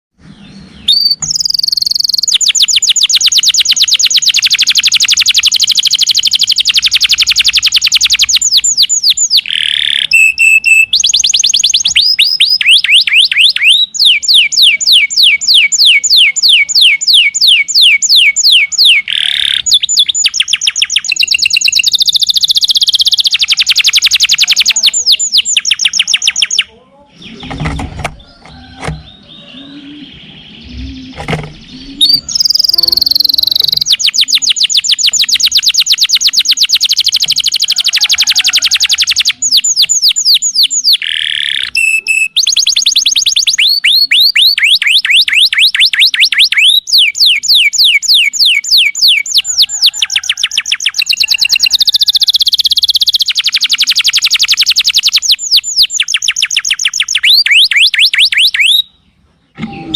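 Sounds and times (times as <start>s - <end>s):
canary singing trills: 0.2s - 59.9s.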